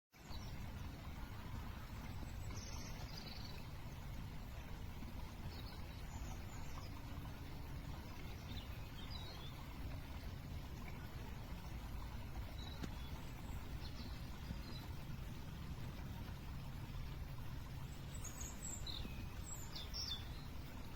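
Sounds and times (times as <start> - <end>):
low outdoor rumble: 0.2 - 20.9.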